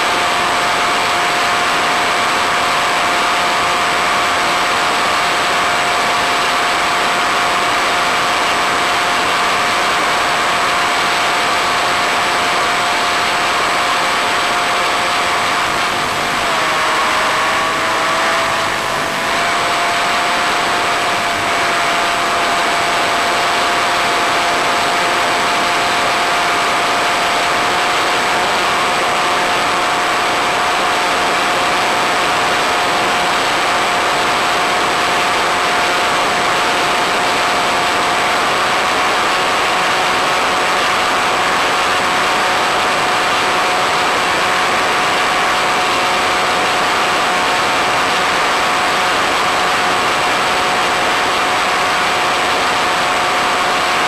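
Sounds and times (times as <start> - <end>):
electric motor propeller whine: 0.0 - 54.0.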